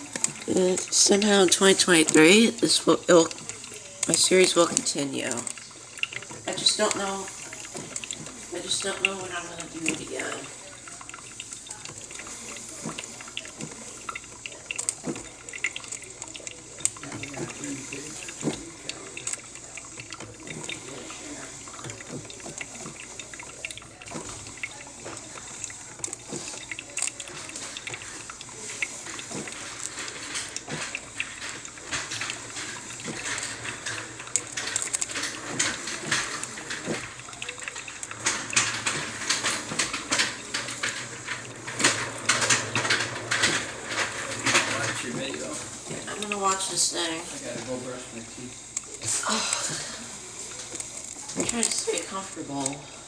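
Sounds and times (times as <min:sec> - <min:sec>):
coffee maker bubbling: 0:00.0 - 0:53.0.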